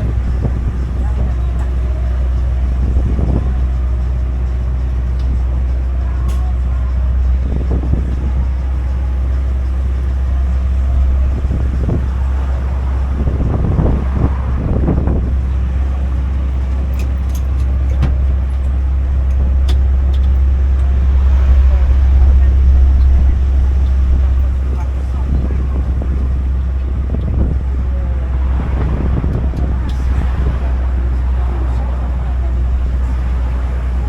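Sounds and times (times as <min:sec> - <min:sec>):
faint voices: 0:00.0 - 0:34.0
motor vehicle rumbling: 0:00.0 - 0:34.0.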